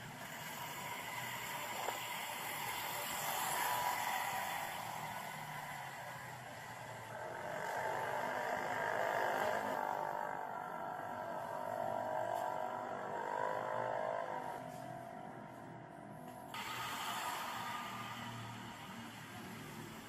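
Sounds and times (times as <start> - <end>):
vehicle engines passing: 0.0 - 20.0.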